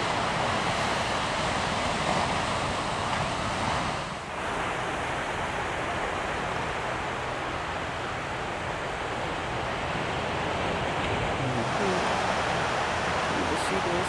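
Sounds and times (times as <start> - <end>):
surf washing onto beach: 0.0 - 14.0.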